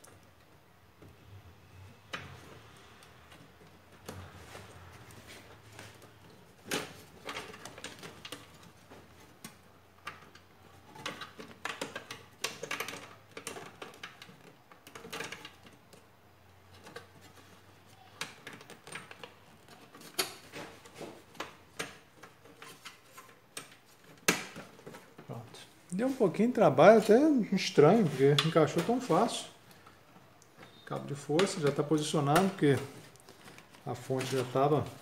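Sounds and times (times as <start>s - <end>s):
cable connectors clicking and scraping: 0.0s - 35.0s.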